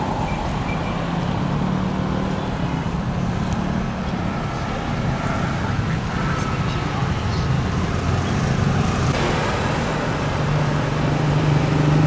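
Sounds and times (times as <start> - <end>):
steady road noise: 0.0 - 12.0.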